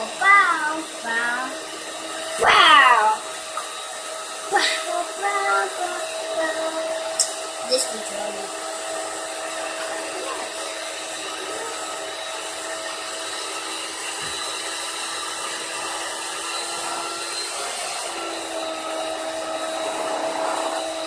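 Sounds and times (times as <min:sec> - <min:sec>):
small electric motor whirring: 0:00.0 - 0:21.0.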